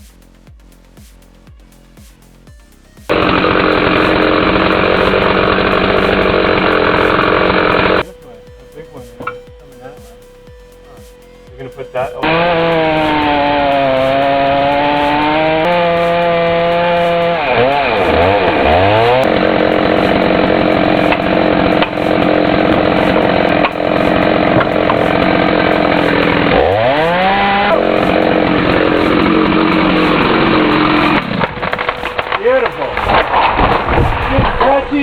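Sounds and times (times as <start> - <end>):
chainsaw cutting through tree: 3.1 - 8.4, 11.7 - 34.6.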